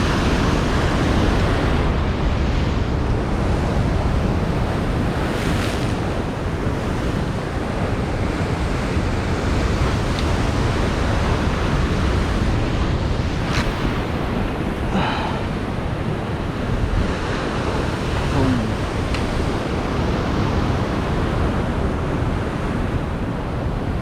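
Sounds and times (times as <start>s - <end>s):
ocean surf washing ashore: 0.0s - 24.0s
wind buffeting microphone: 0.0s - 24.0s.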